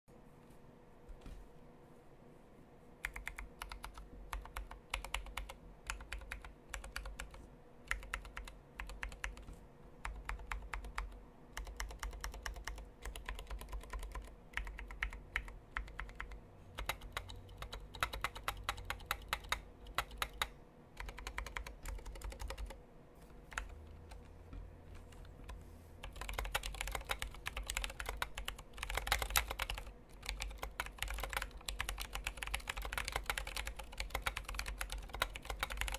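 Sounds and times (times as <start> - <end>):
mechanical keyboard typing: 3.0 - 22.8, 23.5 - 24.3, 24.9 - 35.9.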